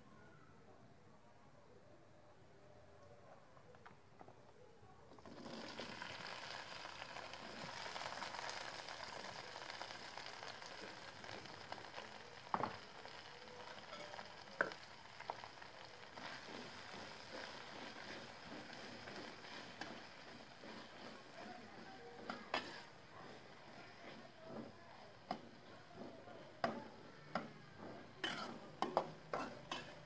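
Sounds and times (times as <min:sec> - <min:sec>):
vegetables sizzling in hot oil: 0:05.1 - 0:30.0.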